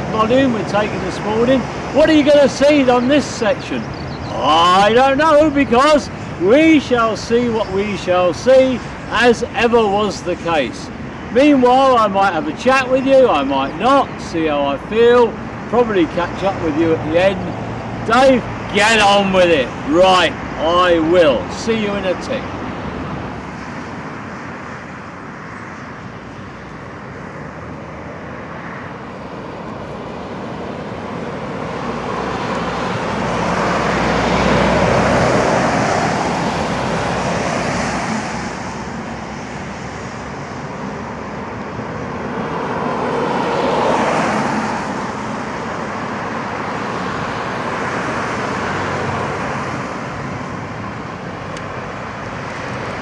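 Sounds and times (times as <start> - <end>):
road traffic engine and tyre noise: 0.0 - 53.0.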